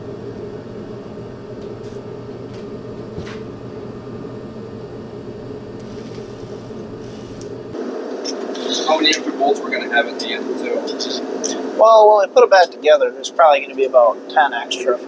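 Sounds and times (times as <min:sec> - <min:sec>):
mechanical hum: 0:00.0 - 0:12.1.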